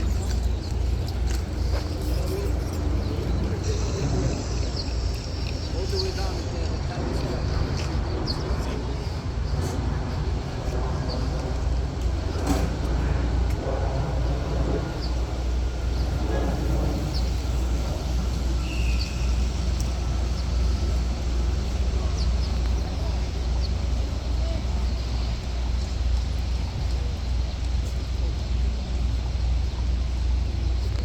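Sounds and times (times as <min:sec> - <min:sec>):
faint passing voices: 0:00.0 - 0:31.0
low rumble of traffic: 0:00.0 - 0:31.0.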